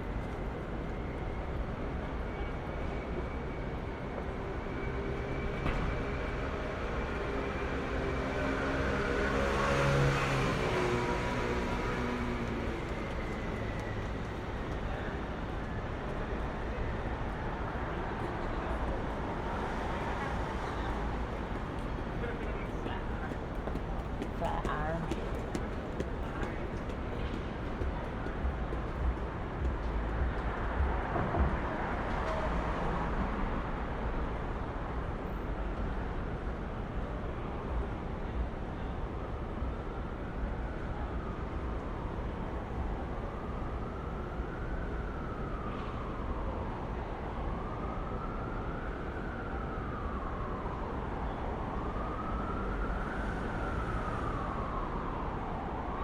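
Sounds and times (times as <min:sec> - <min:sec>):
car and engine noise: 0:00.0 - 0:56.0
city street traffic rumble: 0:00.0 - 0:56.0.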